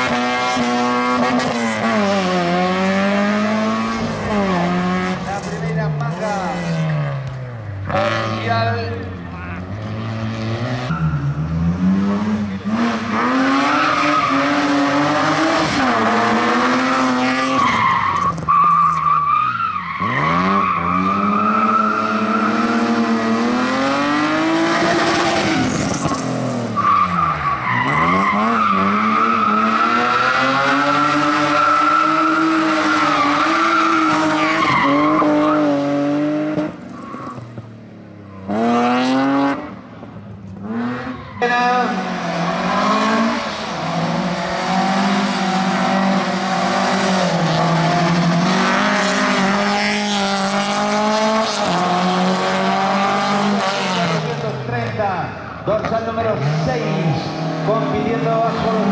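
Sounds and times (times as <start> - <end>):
rally car engine revving: 0.0 - 58.9.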